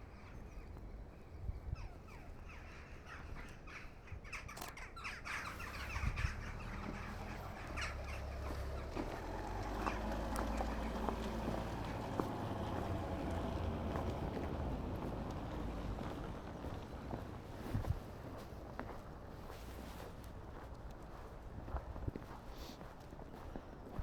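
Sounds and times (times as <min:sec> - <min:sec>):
birds calling: 0:00.0 - 0:19.6.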